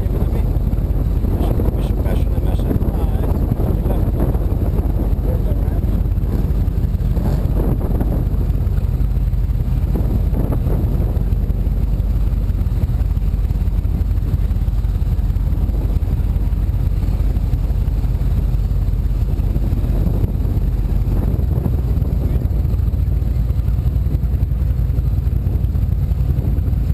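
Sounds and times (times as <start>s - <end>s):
powerboat engine low rumble: 0.0s - 26.9s.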